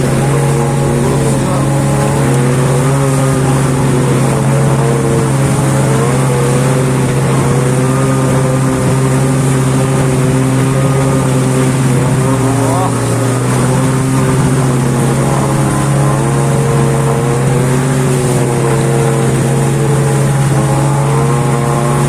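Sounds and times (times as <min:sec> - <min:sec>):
snowmobile engine droning: 0:00.0 - 0:22.0.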